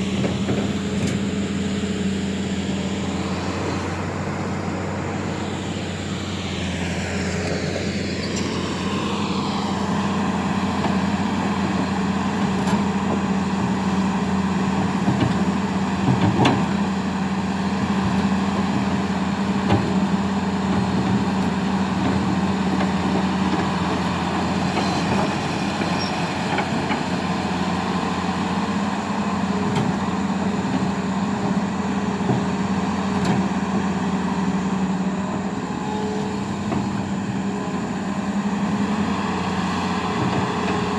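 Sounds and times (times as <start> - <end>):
excavator engine hum: 0.0 - 40.9.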